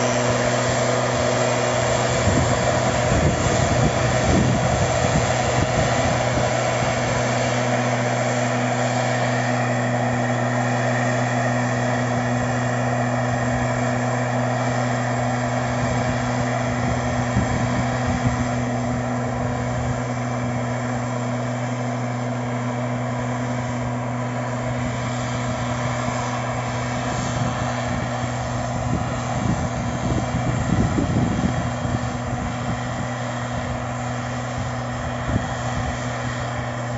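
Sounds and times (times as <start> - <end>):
mist blower engine droning: 0.0 - 36.9.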